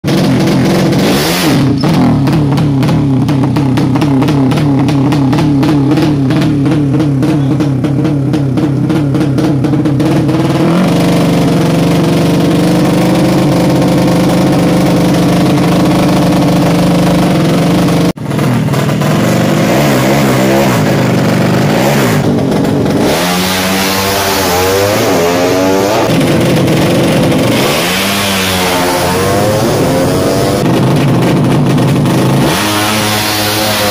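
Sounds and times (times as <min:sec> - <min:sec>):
motorbike engine revving: 0:00.0 - 0:33.9.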